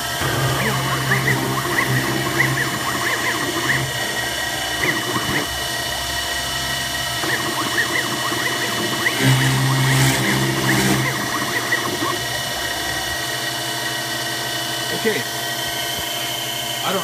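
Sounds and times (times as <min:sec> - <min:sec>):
milling machine motor hum: 0:00.0 - 0:17.0
stepper motor whines: 0:00.0 - 0:17.0.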